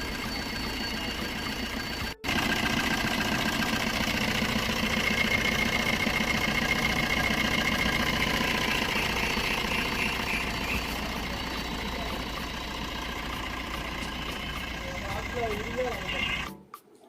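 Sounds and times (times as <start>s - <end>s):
diesel engine idling: 0.0s - 16.5s.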